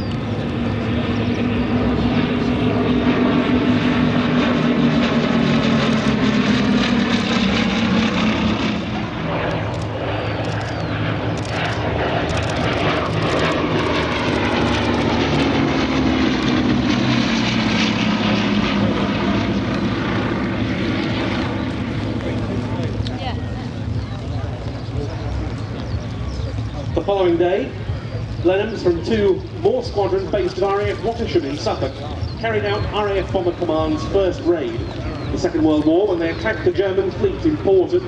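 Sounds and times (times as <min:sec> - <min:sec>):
propeller plane engines in flight: 0:00.0 - 0:38.0.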